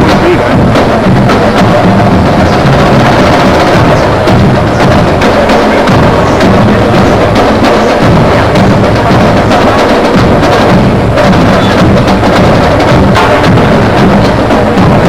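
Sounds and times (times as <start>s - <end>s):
loud percussive music: 0.0s - 15.0s.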